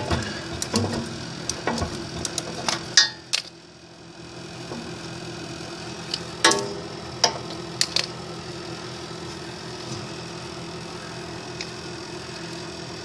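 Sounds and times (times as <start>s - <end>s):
space heater humming: 0.0s - 13.0s.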